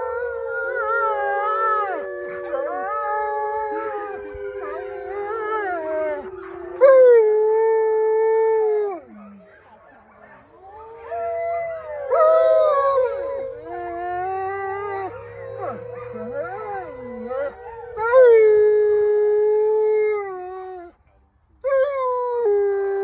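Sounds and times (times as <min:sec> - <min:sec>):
wolfdogs howling in chorus: 0:00.0 - 0:21.0.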